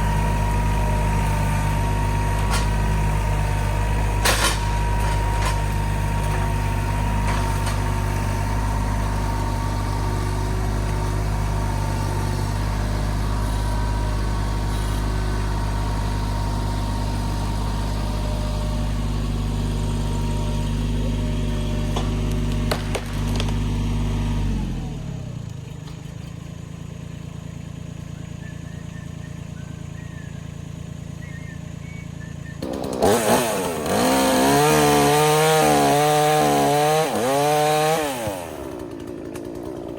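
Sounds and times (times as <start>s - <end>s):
chainsaw revving: 0.0s - 25.6s, 29.0s - 39.9s
engine idling: 0.0s - 36.2s, 38.3s - 39.9s.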